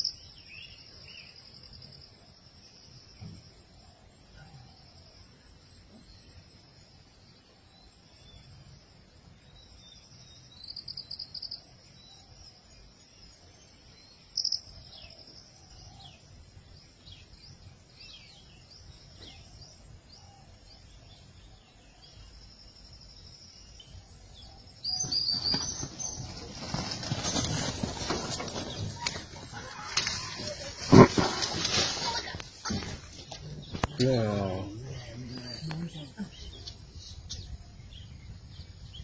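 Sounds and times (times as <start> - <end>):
insects buzzing: 0.0 - 39.0
birds chirping: 7.0 - 39.0.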